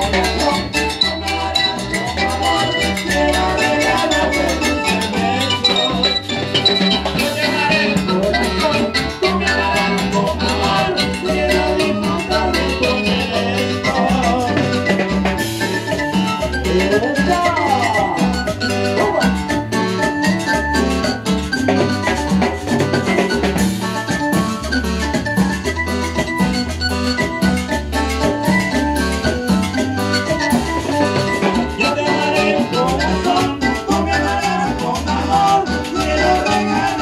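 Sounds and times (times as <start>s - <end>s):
conga drum: 0.0s - 37.0s
keyboard melody: 0.0s - 37.0s.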